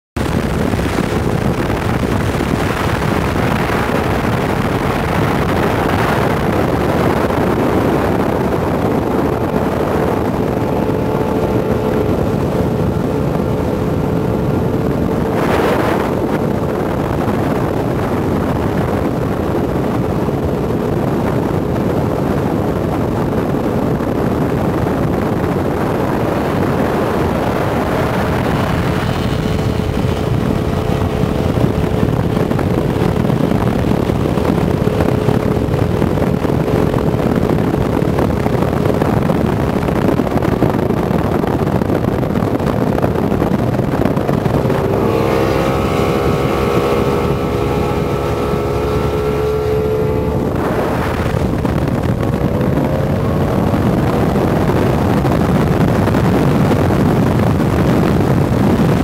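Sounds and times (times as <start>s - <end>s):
wind on microphone: 0.1s - 59.0s
water rushing past: 0.2s - 22.2s, 24.6s - 57.6s
outboard boat engines running: 0.2s - 59.0s.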